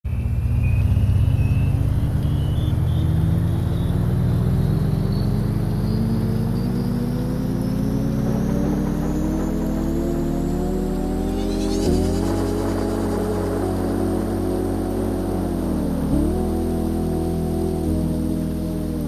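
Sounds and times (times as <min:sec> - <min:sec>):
engine and road rumble: 0:00.0 - 0:19.0
rising whine: 0:00.1 - 0:19.0.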